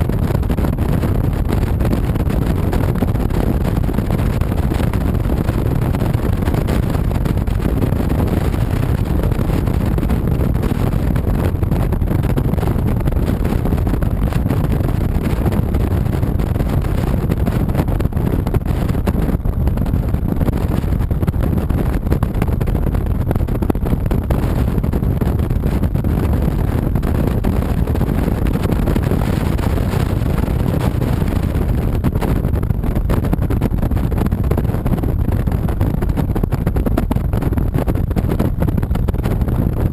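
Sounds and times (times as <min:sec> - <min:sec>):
motorcycle engine and road noise: 0:00.0 - 0:39.9
wind rush on microphone: 0:00.0 - 0:39.9.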